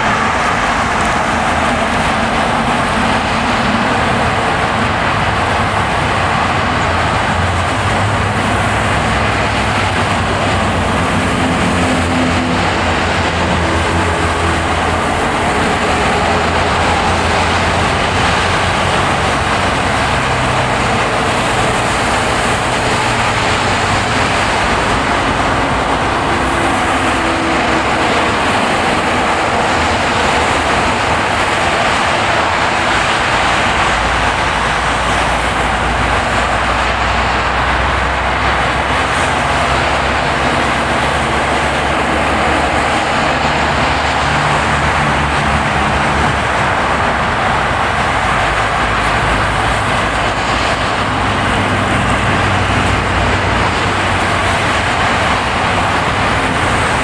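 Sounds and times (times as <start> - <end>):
tyre and road noise: 0.0 - 57.0.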